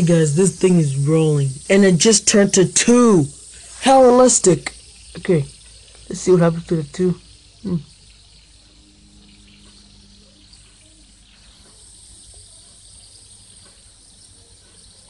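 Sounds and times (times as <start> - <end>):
fidget spinner humming: 0.0 - 15.0
soft hiss: 0.0 - 15.0.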